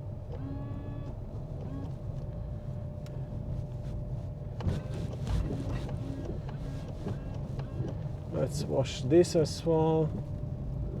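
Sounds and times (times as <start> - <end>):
car engine and road rumble: 1.1 - 11.0.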